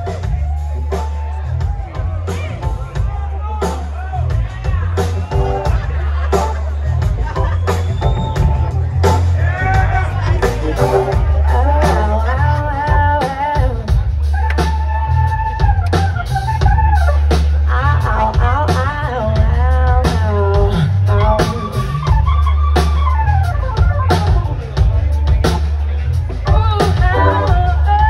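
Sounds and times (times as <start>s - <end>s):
blues-rock band playing: 0.0s - 28.0s
heavy bass line: 0.0s - 28.0s
keyboards: 0.0s - 28.0s
steady drum beat: 0.0s - 28.0s.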